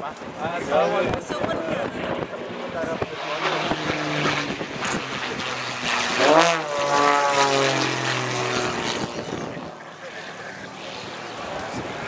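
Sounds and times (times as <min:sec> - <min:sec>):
propeller plane engine: 0:00.0 - 0:12.0.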